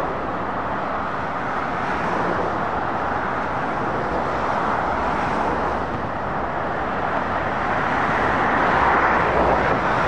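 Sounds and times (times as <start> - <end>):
road traffic noise: 0.0 - 10.0
tyres on road: 0.0 - 10.0.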